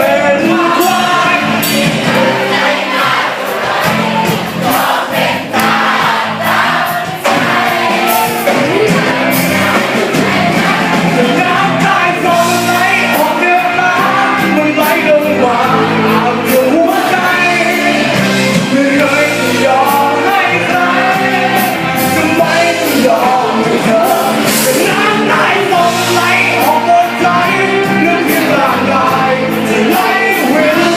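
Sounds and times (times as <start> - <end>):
person singing: 0.0 - 5.0, 7.3 - 30.9
drums and cymbals: 0.0 - 30.9
live band playing: 0.0 - 30.9.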